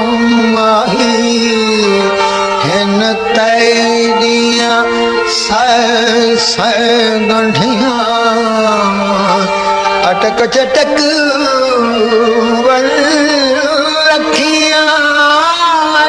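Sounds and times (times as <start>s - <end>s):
man singing folk song: 0.0s - 16.0s.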